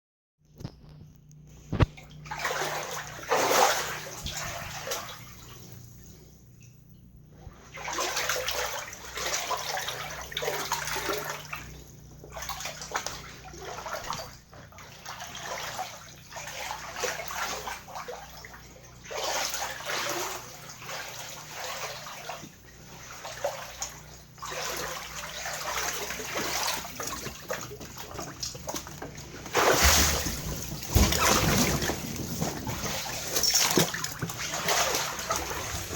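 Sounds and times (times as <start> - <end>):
floodwater sloshing and splashing: 1.6 - 35.9.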